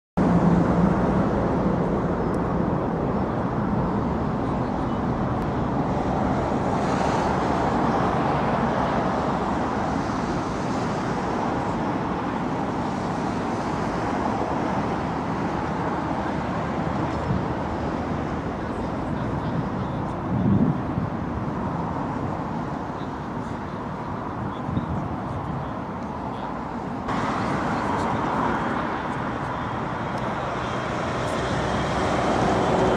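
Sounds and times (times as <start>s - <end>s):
jet engines roaring: 0.2s - 32.9s.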